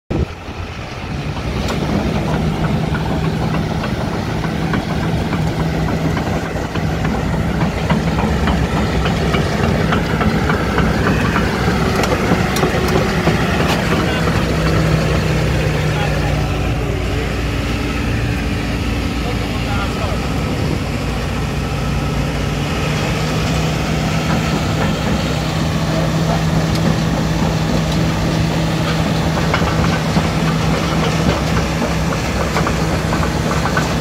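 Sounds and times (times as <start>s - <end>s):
diesel engine running: 0.1s - 34.0s.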